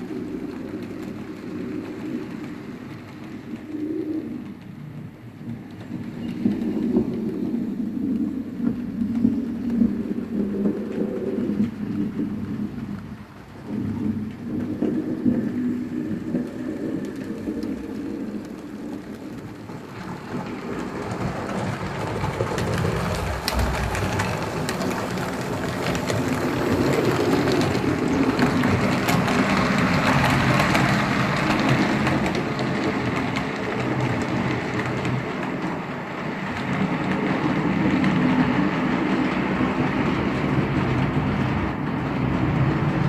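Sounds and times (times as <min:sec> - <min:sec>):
wheels clattering over rails: 0:00.0 - 0:43.0.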